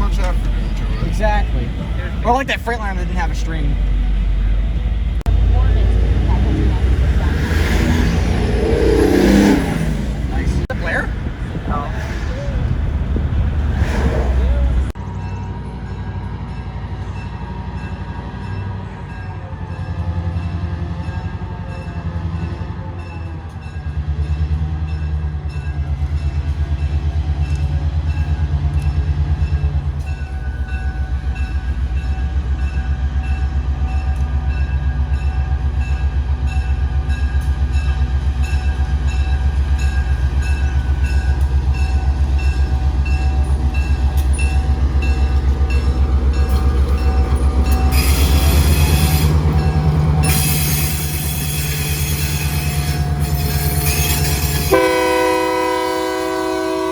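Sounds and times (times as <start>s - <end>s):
large diesel engine pulsing rumble: 0.0s - 15.9s, 25.9s - 56.9s.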